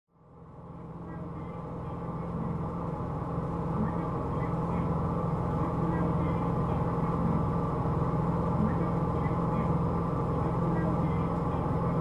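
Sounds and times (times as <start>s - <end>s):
bus diesel engine running: 0.1s - 12.0s.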